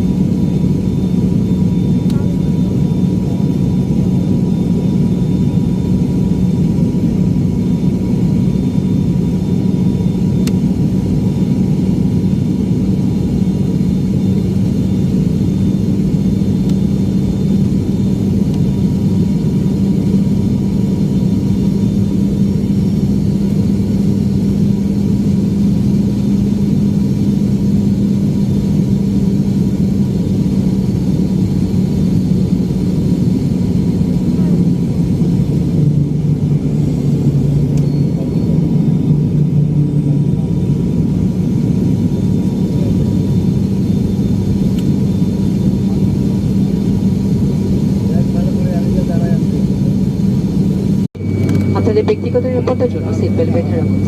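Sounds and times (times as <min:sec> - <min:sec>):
airliner cabin engine drone: 0:00.0 - 0:54.0.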